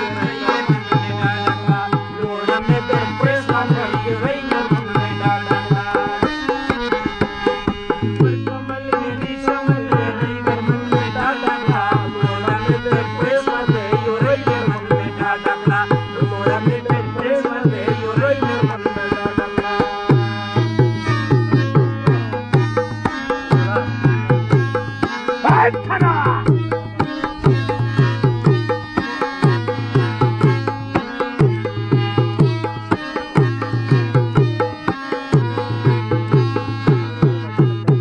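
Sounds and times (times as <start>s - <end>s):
harmonium melody: 0.0s - 38.0s
tabla rhythm: 0.0s - 38.0s.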